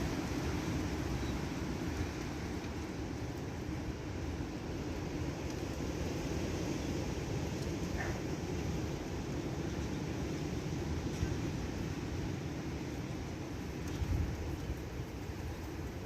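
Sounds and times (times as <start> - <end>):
strong wind blowing: 0.0 - 16.0
wind rumble on microphone: 0.0 - 16.0.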